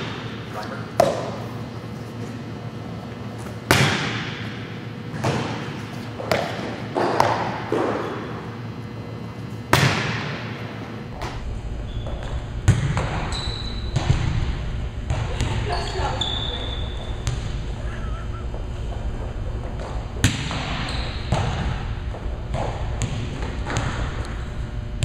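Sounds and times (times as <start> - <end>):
volleyball thumps echoing in gym: 0.0 - 1.8, 2.4 - 17.8, 18.5 - 25.0.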